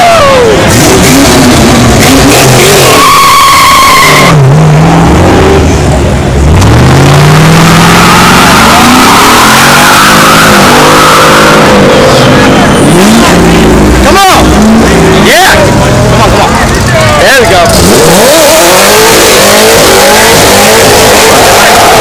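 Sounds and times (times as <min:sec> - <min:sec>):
tires squealing: 0:00.0 - 0:05.1, 0:06.4 - 0:22.0
car engine revving: 0:00.0 - 0:22.0.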